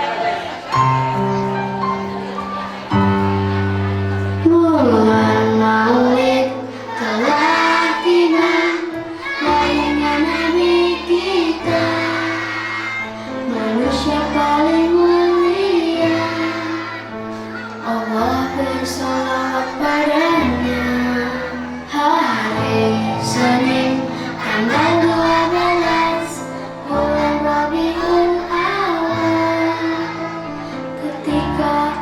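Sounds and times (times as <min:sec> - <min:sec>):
children's choir singing: 0:00.0 - 0:32.0.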